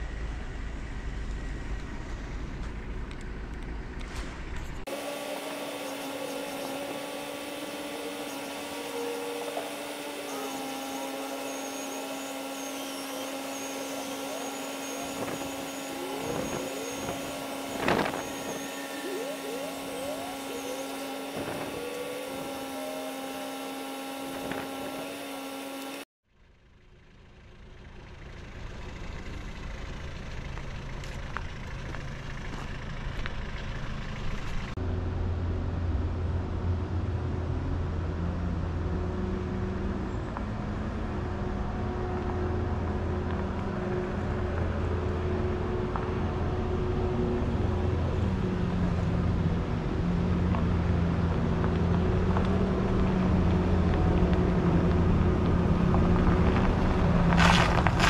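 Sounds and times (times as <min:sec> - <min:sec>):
trolleybus drone: 0:00.0 - 0:58.0.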